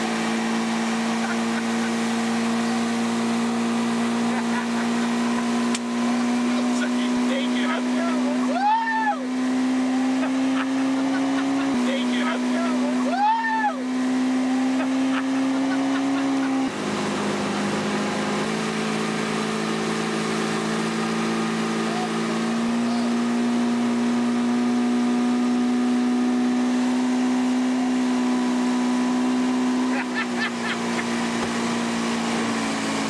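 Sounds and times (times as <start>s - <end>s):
outboard motor droning: 0.0s - 33.0s
rushing water: 0.0s - 33.0s
wind: 0.0s - 33.0s.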